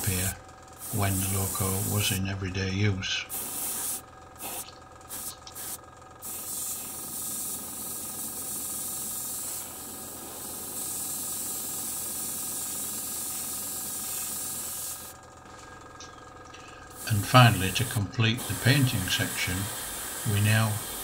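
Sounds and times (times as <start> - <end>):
airbrush spray hiss: 0.0 - 2.2, 3.3 - 15.2, 17.0 - 21.0.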